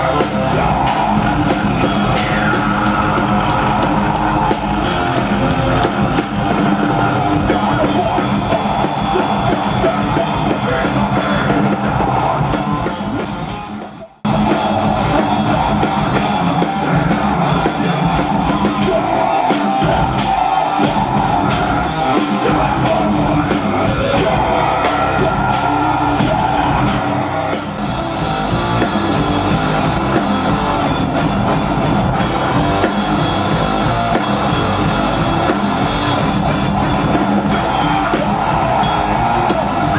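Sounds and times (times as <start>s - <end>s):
driving drum kit: 0.0s - 39.9s
live rock band playing: 0.0s - 39.9s.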